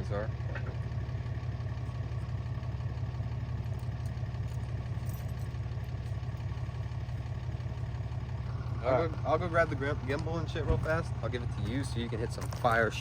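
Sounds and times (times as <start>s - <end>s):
vehicle engine running steadily: 0.0s - 13.0s.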